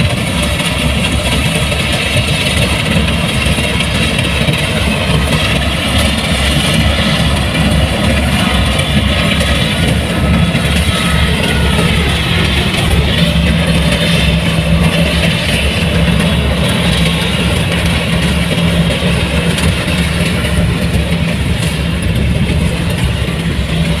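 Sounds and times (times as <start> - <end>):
diesel engine running steadily: 0.0 - 24.0.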